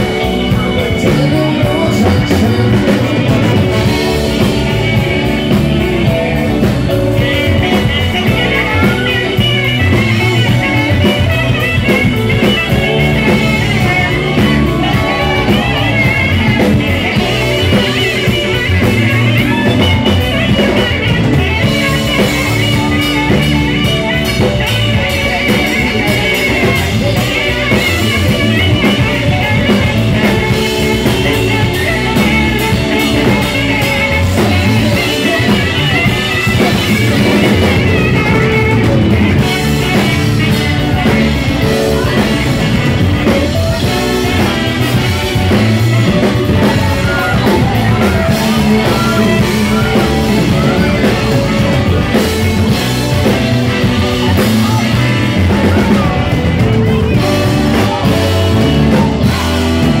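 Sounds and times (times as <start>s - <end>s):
live pop-rock band: 0.0s - 60.0s
male lead vocal: 0.0s - 60.0s.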